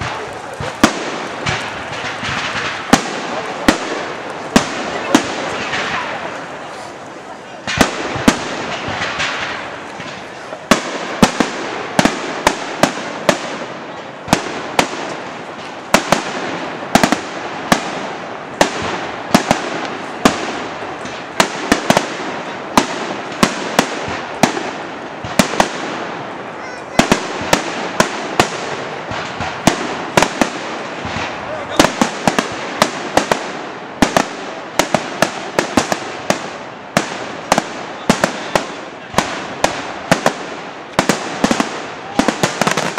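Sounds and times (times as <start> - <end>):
crowd noise: 0.0 - 42.9
fireworks banging: 0.0 - 42.9.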